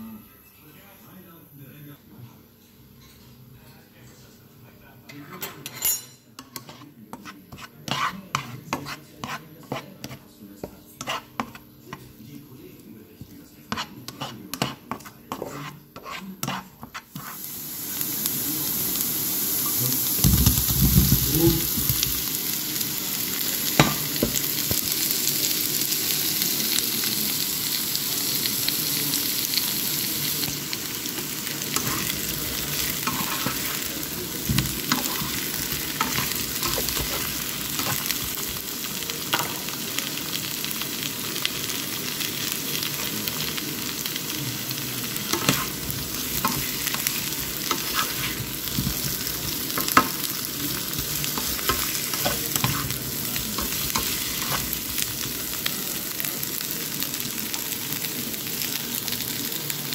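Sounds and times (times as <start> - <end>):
potatoes sizzling in a pan: 6.4 - 59.9.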